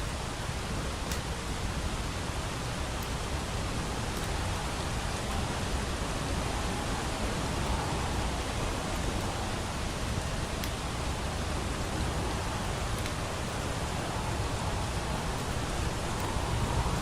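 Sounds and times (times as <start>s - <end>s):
rain hissing: 0.0s - 17.0s
wood fire crackling: 0.0s - 17.0s.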